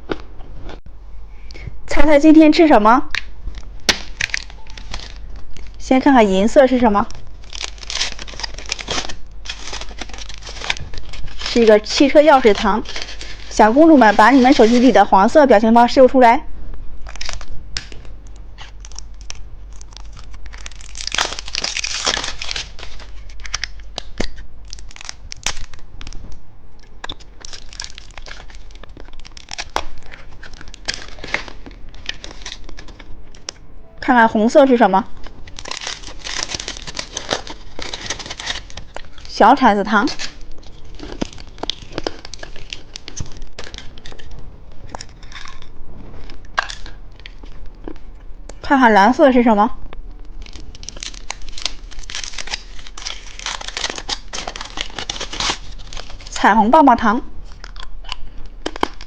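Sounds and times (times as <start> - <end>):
plastic wrapper crinkling: 2.6 - 15.4, 17.0 - 33.6, 35.1 - 48.6, 50.1 - 56.5, 57.4 - 59.0.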